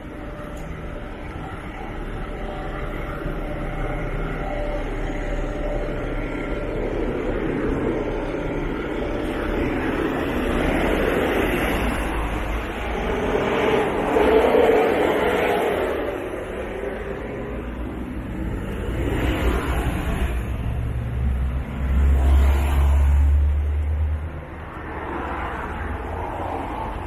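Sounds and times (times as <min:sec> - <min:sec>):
bus diesel engine running: 0:00.0 - 0:24.8.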